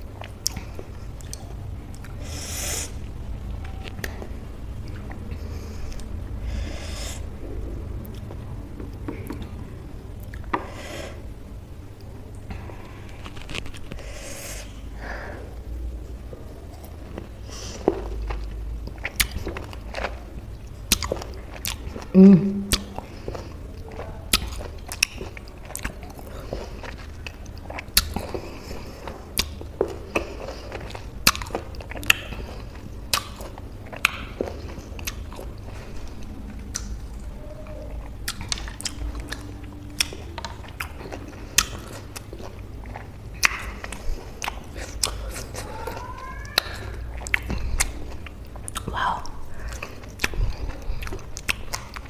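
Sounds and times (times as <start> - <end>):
chewing juicy fruit: 0.0 - 11.2, 16.0 - 52.0.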